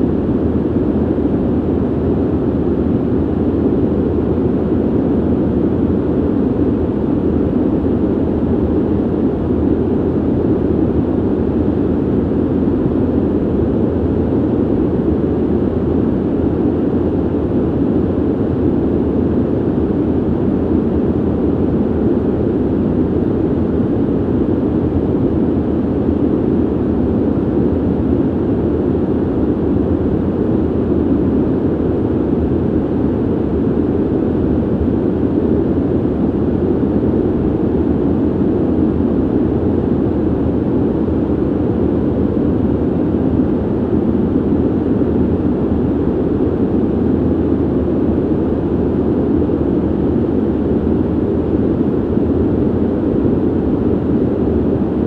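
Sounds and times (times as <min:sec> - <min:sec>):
ventilation air rushing: 0:00.0 - 0:55.0.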